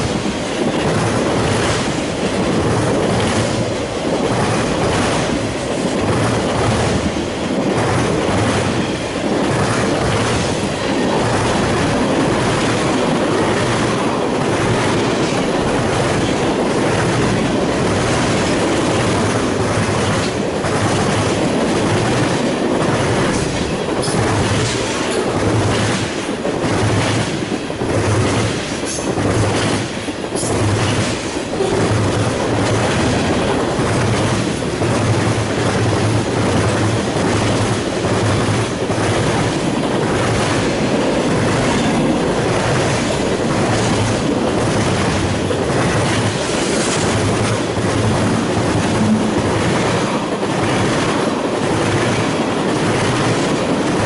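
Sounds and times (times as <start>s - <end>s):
clickety-clack over rail joints: 0.0s - 54.0s
train wheels rumbling on rail: 0.0s - 54.0s.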